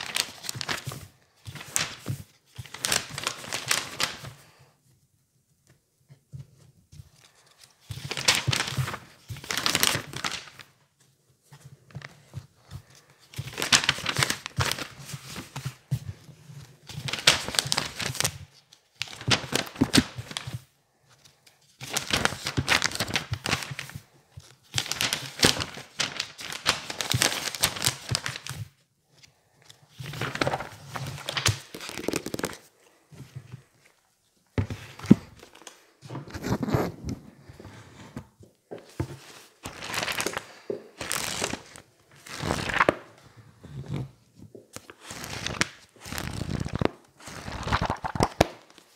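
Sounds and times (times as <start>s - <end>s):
book pages flipping: 0.0s - 4.5s, 5.6s - 48.9s.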